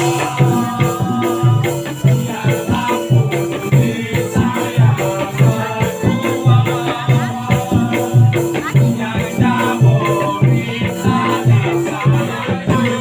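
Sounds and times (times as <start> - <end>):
percussive beat: 0.0 - 13.0
repeating bass notes: 0.0 - 13.0.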